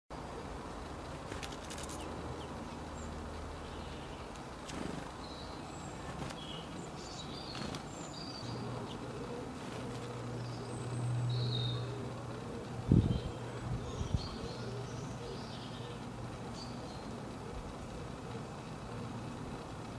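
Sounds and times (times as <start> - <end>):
low buzzing hum: 0.1 - 19.9
small birds chirping: 0.2 - 19.9.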